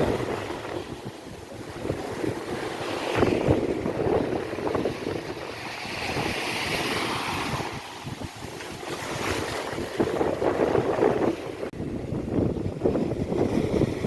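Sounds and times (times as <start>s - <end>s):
ocean waves on beach: 0.0s - 14.0s
wind buffeting microphone: 0.0s - 14.0s.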